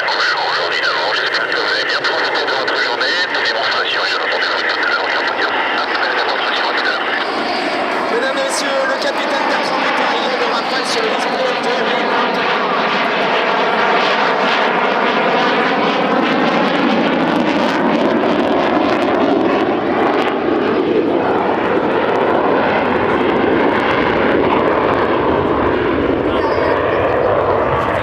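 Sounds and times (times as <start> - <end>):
jet engines roaring in flight: 0.0 - 28.0.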